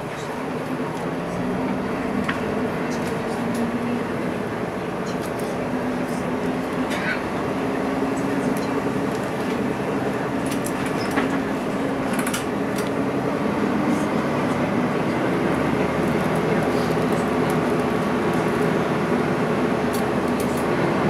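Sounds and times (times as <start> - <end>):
tram running hum: 0.0 - 21.0.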